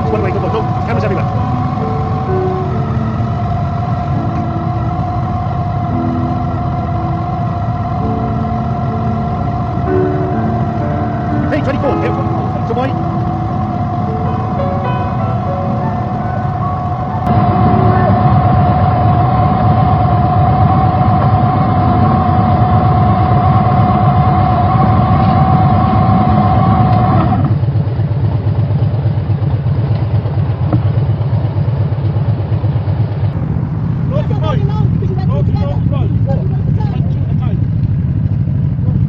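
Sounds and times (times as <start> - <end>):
steady high tone: 0.0 - 27.5, 33.3 - 37.9
motorcycle engine running: 0.0 - 39.0.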